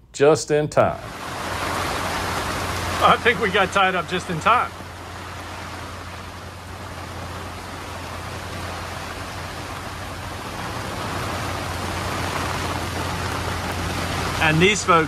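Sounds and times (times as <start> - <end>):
steady low hum: 0.8 - 15.0
heavy rain on canvas: 0.9 - 15.0.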